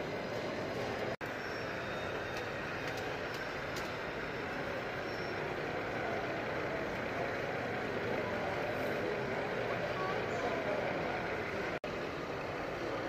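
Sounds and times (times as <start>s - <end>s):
indistinct crowd chatter: 2.4s - 13.0s.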